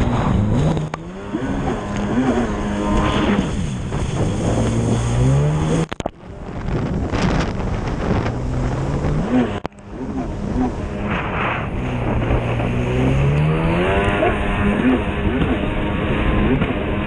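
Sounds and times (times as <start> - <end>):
snowmobile engine at high revs: 0.0 - 17.0
wind buffeting the microphone: 0.0 - 17.0.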